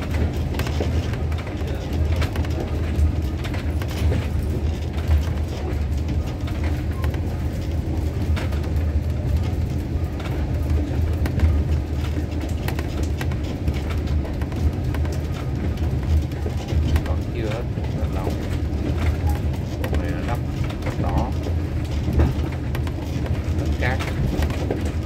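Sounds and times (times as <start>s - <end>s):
low rumble of moving train: 0.0s - 25.0s.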